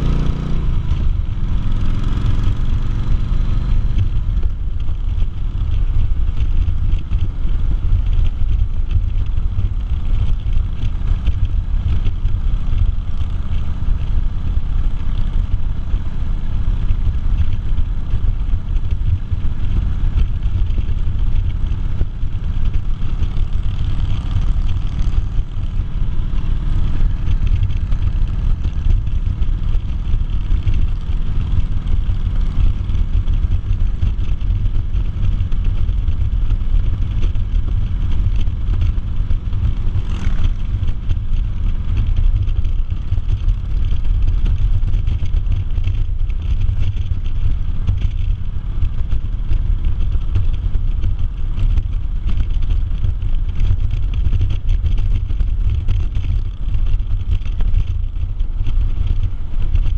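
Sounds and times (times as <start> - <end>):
motorcycle engine cruising: 0.0 - 59.9
wind rumble on microphone: 0.0 - 59.9.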